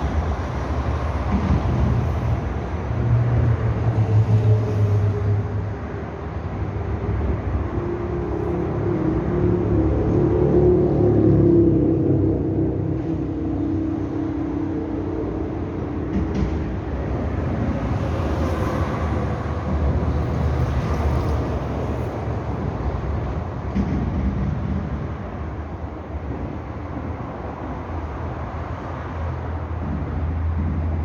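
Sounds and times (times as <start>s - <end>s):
vehicle rumble: 0.0s - 31.0s.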